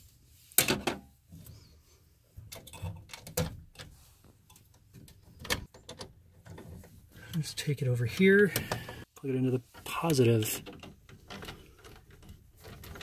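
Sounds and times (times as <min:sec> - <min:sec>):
wires clicking and scraping metal: 0:02.4 - 0:13.0.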